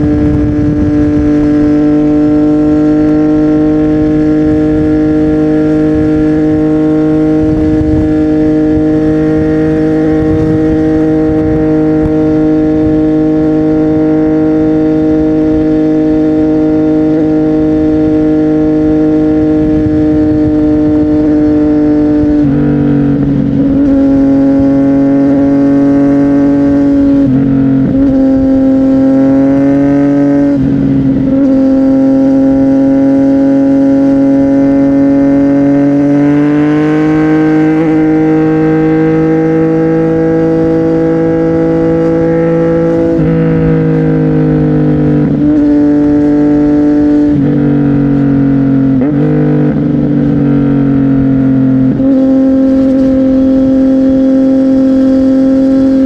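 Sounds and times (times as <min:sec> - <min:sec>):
motorcycle engine with gear changes: 0:00.0 - 0:56.0.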